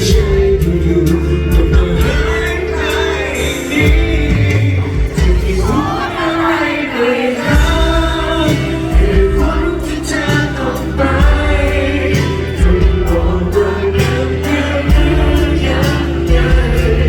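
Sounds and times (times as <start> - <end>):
man singing pop song with band: 0.0 - 17.0.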